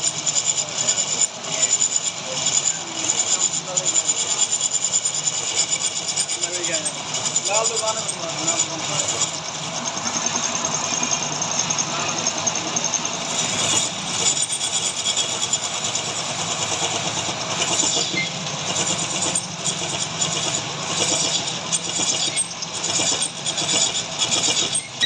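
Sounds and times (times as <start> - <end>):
metal lathe running: 0.0 - 25.0.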